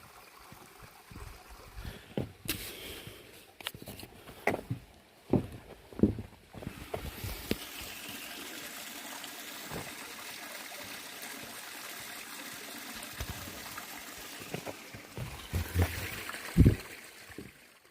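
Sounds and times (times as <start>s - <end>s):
water trickling: 0.0s - 3.6s, 6.8s - 17.9s.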